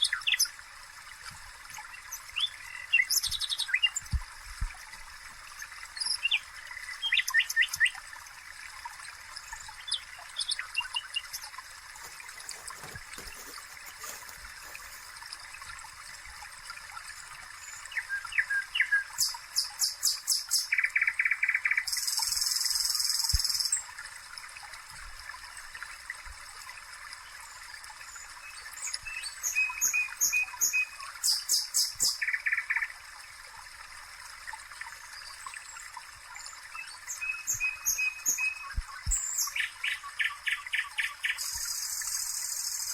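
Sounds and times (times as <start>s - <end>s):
faint steady hiss: 0.0s - 42.9s.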